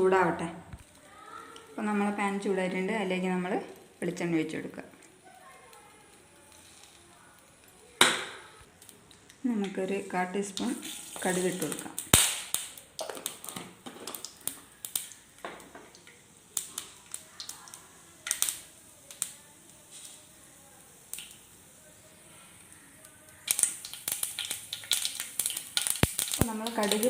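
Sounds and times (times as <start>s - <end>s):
seeds popping in hot oil: 0.7s - 27.0s.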